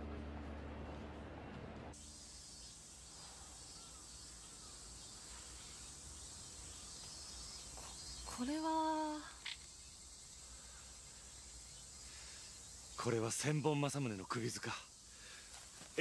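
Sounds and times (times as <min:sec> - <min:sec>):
faint chirps: 0:02.0 - 0:16.0
high insect drone: 0:02.0 - 0:16.0.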